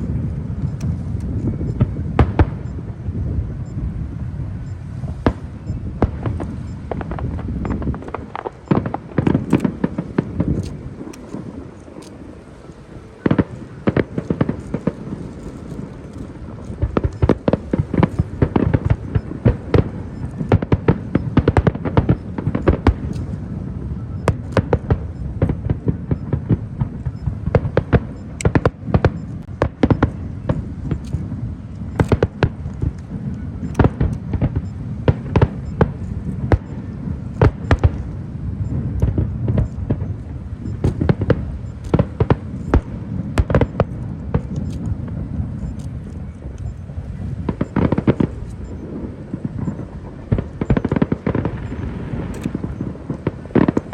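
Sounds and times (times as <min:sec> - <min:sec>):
fireworks bangs: 0:00.0 - 0:53.9
low rumble of fireworks bursts: 0:00.0 - 0:53.9.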